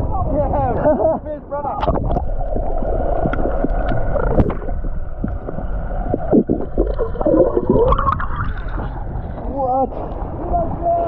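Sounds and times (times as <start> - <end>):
water gurgling and sloshing: 1.5 - 11.0.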